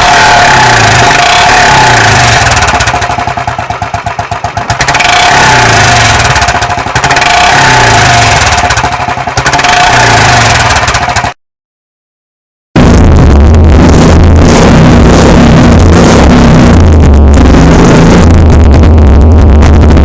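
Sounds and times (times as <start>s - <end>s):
motorcycle engine revving and idling: 0.0s - 11.4s, 12.8s - 20.0s.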